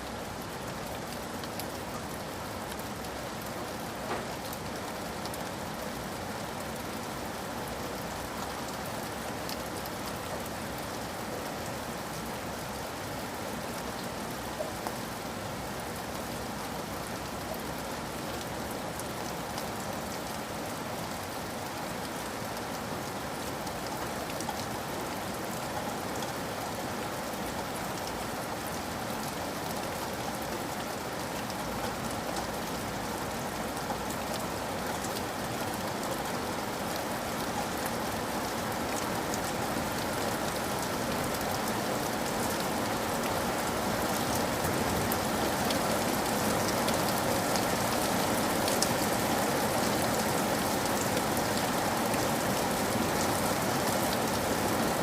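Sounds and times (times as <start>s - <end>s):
steady rain: 0.0s - 55.0s
raindrops tapping on a roof: 0.1s - 55.0s.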